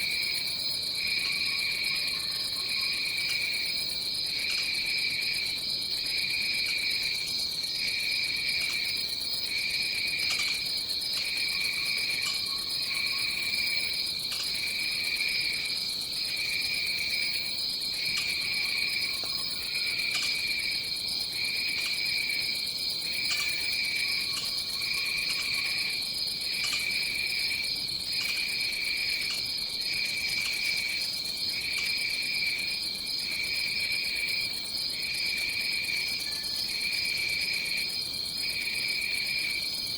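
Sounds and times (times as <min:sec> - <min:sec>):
pulsing lower insect chorus: 0:00.0 - 0:39.9.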